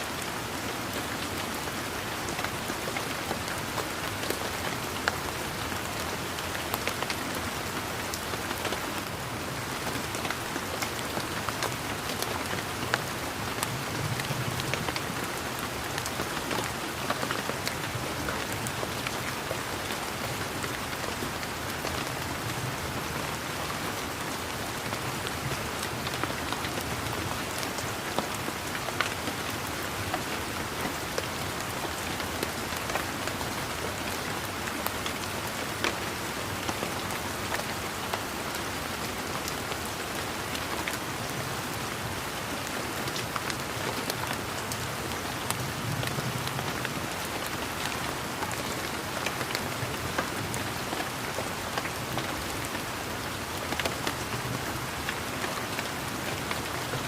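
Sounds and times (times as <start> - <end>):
raindrops ticking close by: 0.0 - 57.0
steady rain hiss: 0.0 - 57.0.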